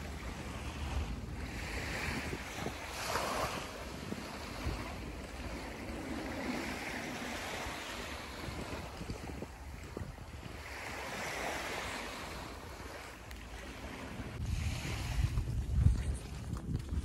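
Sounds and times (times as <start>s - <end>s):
small waves washing onto sand: 0.0s - 17.0s
wind rumbling on microphone: 0.0s - 17.0s.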